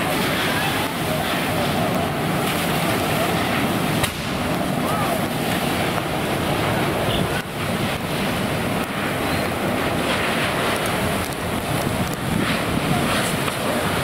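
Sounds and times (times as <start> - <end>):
fire hose water spray hissing: 0.0 - 14.0
flames burning: 0.0 - 14.0.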